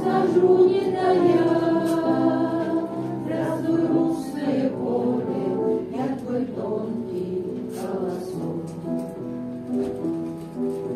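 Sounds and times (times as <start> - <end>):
electric piano: 0.0 - 10.9.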